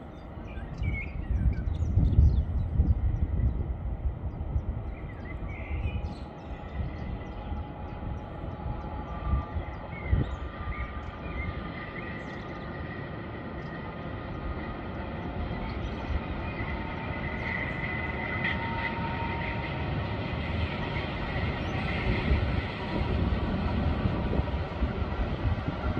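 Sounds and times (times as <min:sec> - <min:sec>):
electric locomotive rumble and whine: 0:00.0 - 0:25.9.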